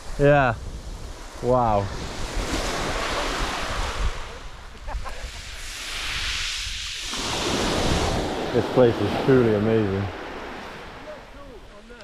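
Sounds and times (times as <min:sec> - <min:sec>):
surf washing on shingle: 0:00.0 - 0:12.0
wind rumbling on microphone: 0:00.0 - 0:12.0.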